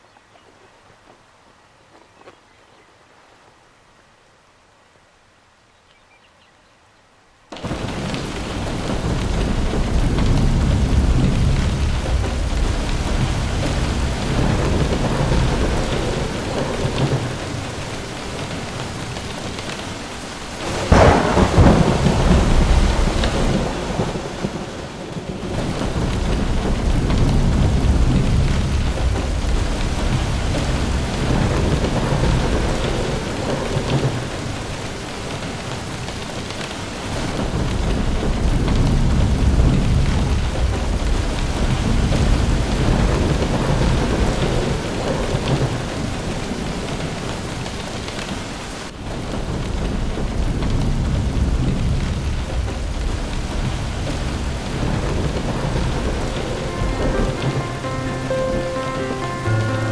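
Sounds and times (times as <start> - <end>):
heavy rain: 7.3 - 59.9
thunder rumbling: 7.5 - 59.9.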